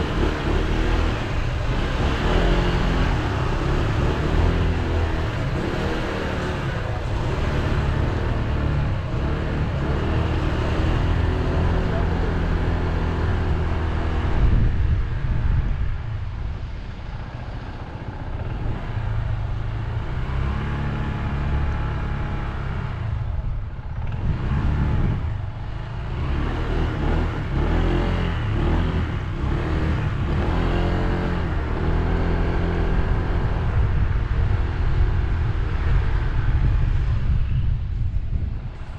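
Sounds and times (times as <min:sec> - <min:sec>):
motorbike engine revving: 0:00.0 - 0:15.0, 0:18.3 - 0:37.0.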